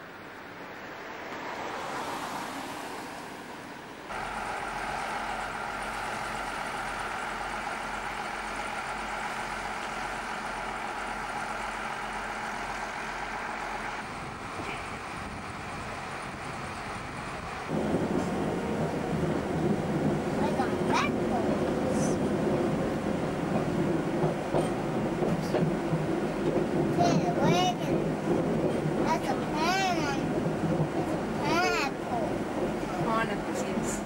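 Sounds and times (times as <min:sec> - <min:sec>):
road vehicle passing: 0:00.0 - 0:34.0
diesel railmotor idling hum: 0:04.1 - 0:34.0.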